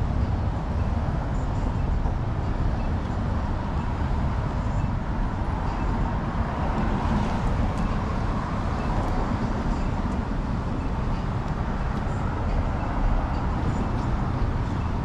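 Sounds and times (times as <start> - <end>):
bicycle road noise: 0.0 - 15.0.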